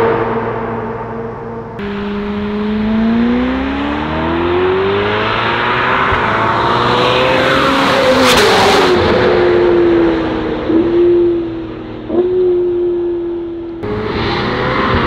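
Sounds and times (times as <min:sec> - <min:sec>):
sports car accelerating hard: 0:00.0 - 0:15.0.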